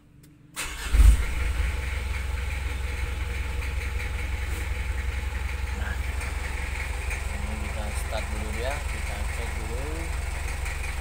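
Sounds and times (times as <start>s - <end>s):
diesel engine idling: 0.6s - 11.0s.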